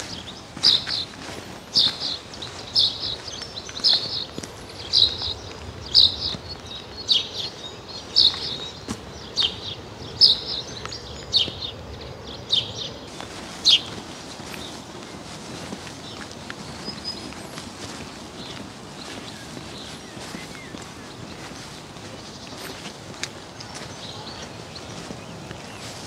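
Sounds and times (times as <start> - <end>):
songbird calling: 0.0 - 26.0.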